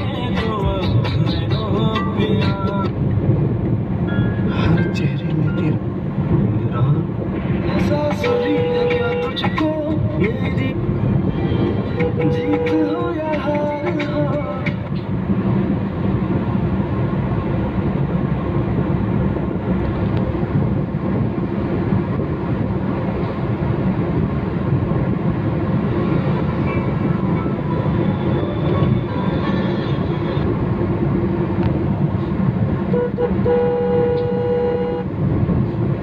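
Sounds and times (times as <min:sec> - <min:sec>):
car road and engine noise: 0:00.0 - 0:36.0.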